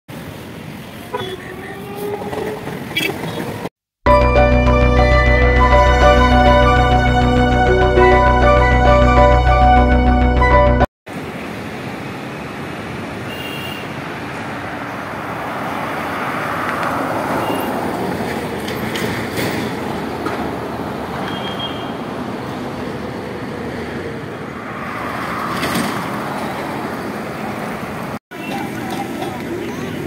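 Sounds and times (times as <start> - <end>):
road traffic passing: 0.1 - 30.0.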